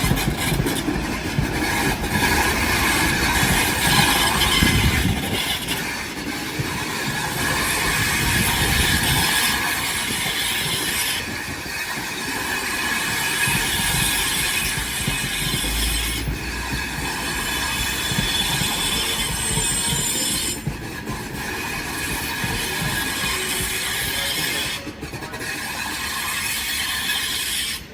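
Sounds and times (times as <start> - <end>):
high-pitched wheel squeal: 0.0 - 6.3, 7.3 - 27.9
train rolling along rails: 0.0 - 27.9.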